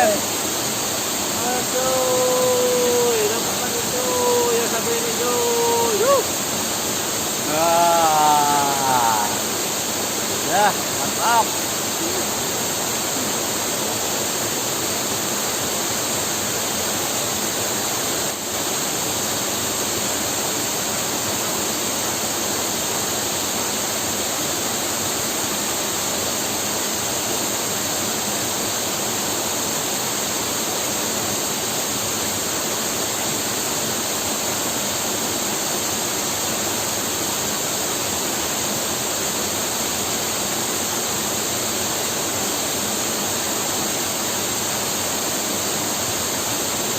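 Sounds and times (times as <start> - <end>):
waterfall pouring into pool: 0.0 - 46.9.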